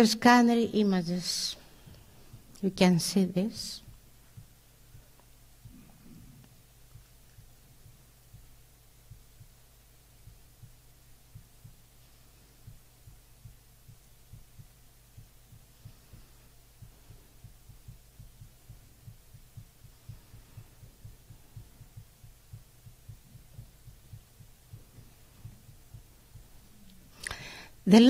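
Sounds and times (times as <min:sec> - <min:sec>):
low electrical hum: 0:00.0 - 0:28.0
soft low thuds: 0:01.7 - 0:27.2.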